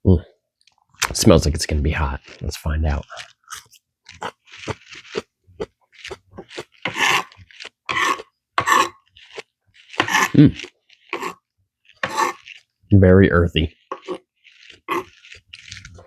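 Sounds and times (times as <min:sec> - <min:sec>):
person crunching chili pepper: 0:00.6 - 0:16.0.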